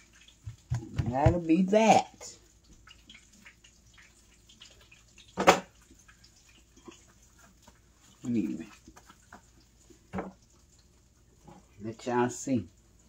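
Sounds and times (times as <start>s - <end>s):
chicken frying in oil: 0.0s - 13.0s.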